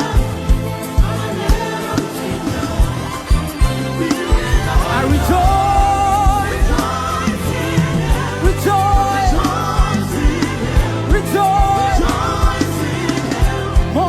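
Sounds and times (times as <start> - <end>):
bass: 0.0 - 14.0
drum beat: 1.0 - 14.0.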